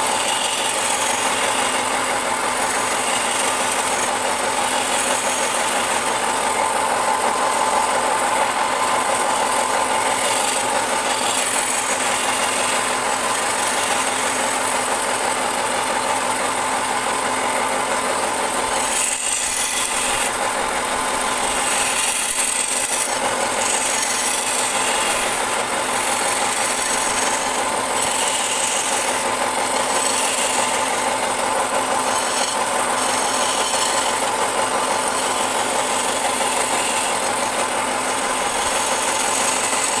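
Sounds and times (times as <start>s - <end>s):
turning tool scraping wood: 0.0s - 40.0s
wood lathe running: 0.0s - 40.0s.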